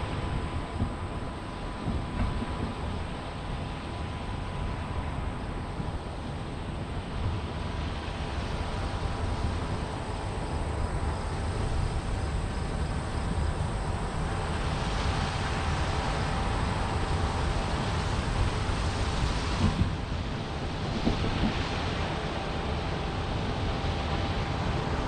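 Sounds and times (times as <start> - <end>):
faint steady whine: 0.0 - 25.0
low mechanical rumble: 0.0 - 25.0
wind noise on microphone: 0.0 - 25.0.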